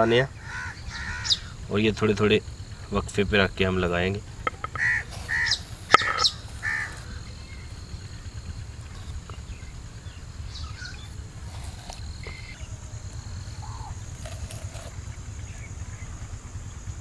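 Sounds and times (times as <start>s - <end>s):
faint bird calls: 0.0s - 17.0s
low rumble: 0.8s - 17.0s.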